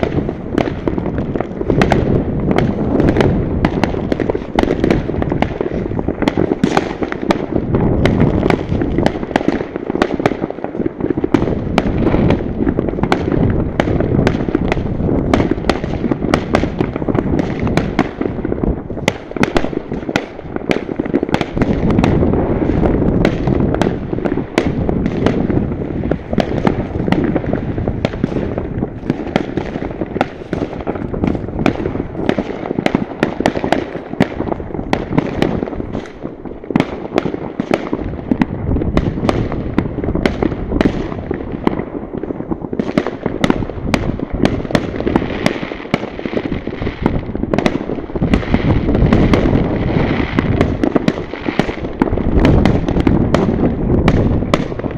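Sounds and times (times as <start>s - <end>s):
distant firework bangs: 0.0s - 54.9s
fireworks crackling and popping: 0.0s - 54.9s.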